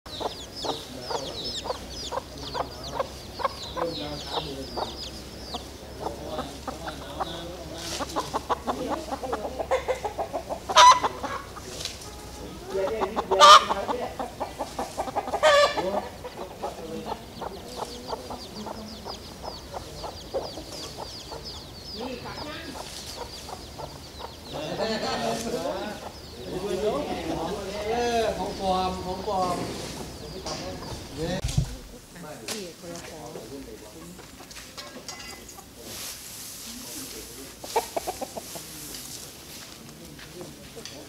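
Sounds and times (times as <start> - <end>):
birds calling: 0.1 - 41.0.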